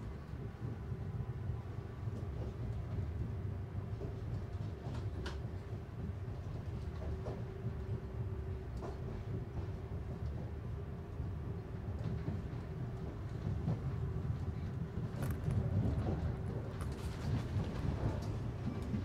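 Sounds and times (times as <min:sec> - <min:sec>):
train rumble inside carriage: 0:00.0 - 0:19.0.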